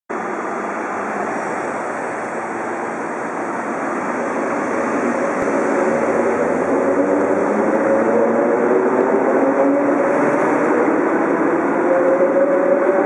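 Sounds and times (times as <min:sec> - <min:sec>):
electric train rumbling: 0:00.1 - 0:13.0
low train whine: 0:00.1 - 0:13.0.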